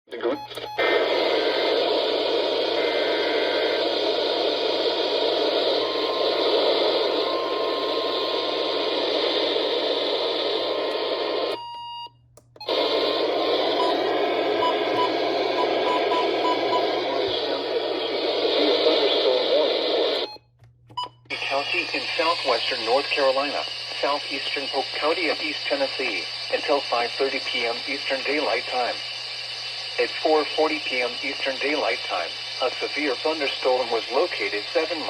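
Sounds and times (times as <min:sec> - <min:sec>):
radio static hiss: 0:00.1 - 0:11.6, 0:12.7 - 0:20.4, 0:21.3 - 0:35.0.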